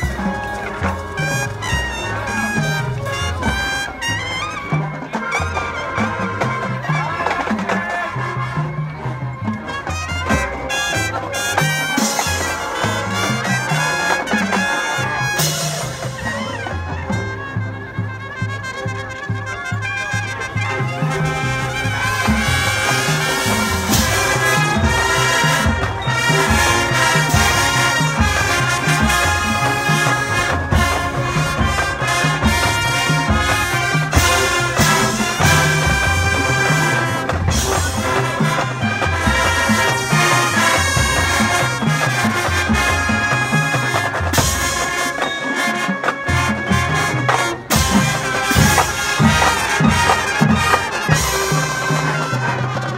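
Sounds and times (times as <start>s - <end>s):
steady drum beat: 0.0s - 17.5s, 20.6s - 52.9s
marching band brass melody: 0.0s - 52.9s.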